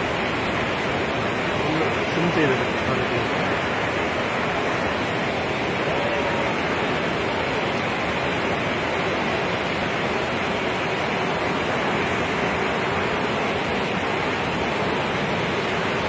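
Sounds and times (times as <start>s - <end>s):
rushing floodwater: 0.0s - 16.0s.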